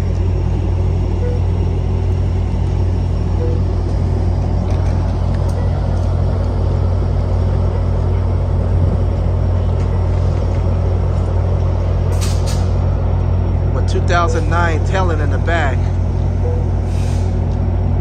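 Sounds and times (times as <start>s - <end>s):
diesel locomotive droning: 0.0s - 18.0s.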